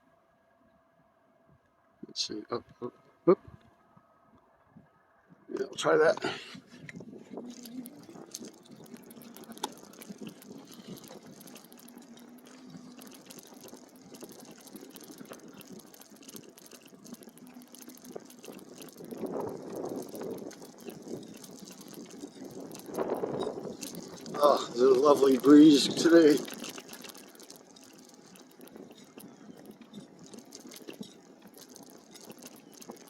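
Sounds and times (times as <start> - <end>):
breeze gusting over microphone: 5.5 - 33.0
moving water: 5.5 - 33.0
small clicks: 5.5 - 33.0.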